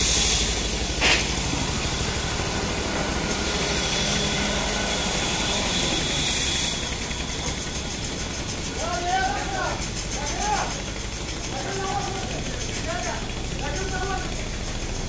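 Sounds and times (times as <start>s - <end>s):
machinery rumbling with hiss: 0.0s - 15.0s.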